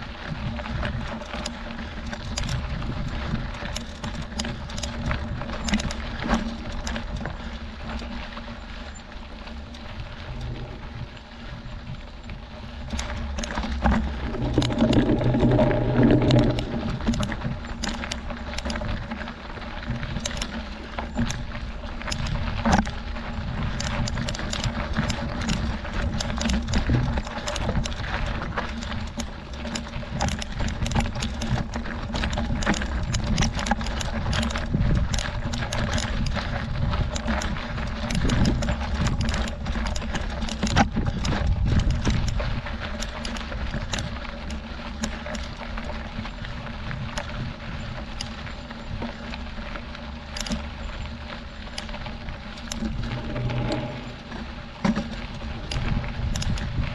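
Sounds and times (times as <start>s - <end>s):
bike rattling over rocks: 0.0s - 56.9s
bike tyres crunching on gravel: 0.0s - 56.9s.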